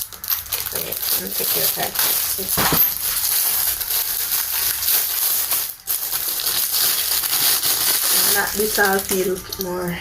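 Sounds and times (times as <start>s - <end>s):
packaging rustling by hand: 0.0s - 10.0s.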